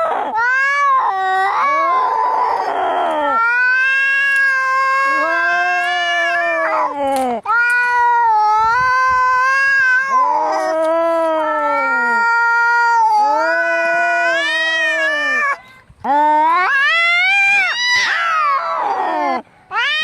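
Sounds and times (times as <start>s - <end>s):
cat yowling: 0.0s - 15.6s, 16.4s - 20.0s.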